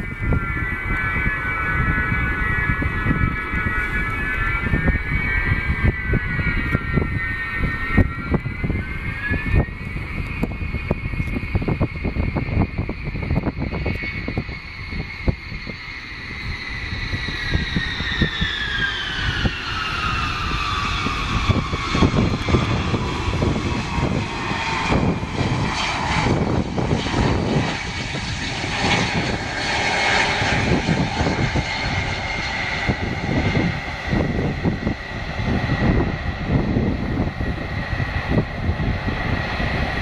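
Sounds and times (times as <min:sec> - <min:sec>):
jet engines whining: 0:00.0 - 0:40.0.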